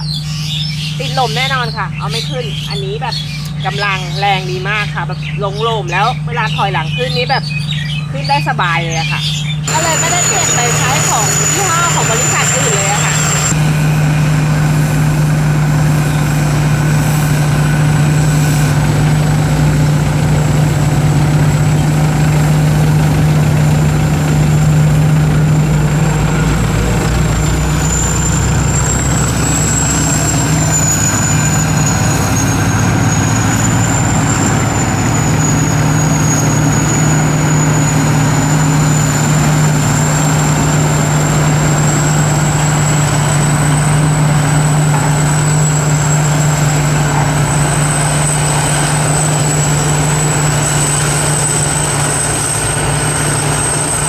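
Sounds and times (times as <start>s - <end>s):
combine harvester engine droning: 0.0s - 54.0s
thin high whine: 9.6s - 54.0s.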